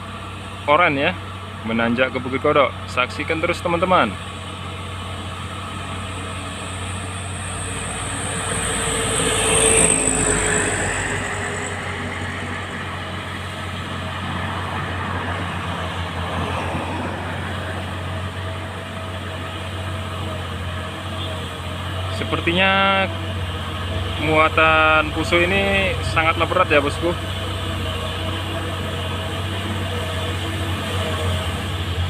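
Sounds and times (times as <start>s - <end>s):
diesel truck engine droning: 0.0s - 32.0s
high engine whine: 0.0s - 32.0s.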